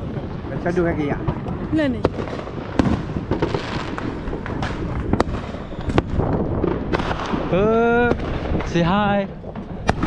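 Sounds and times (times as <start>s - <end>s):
fireworks popping and cracking: 0.0s - 10.0s.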